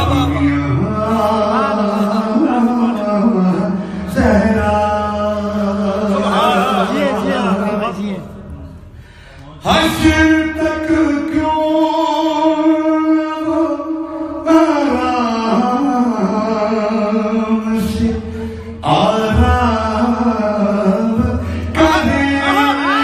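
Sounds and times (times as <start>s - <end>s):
man singing into a microphone: 0.0s - 8.4s, 9.6s - 23.0s.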